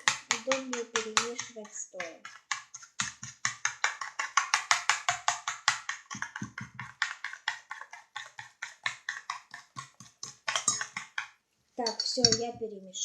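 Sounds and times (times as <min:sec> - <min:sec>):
spoon clacking against mixing bowl: 0:00.0 - 0:12.5.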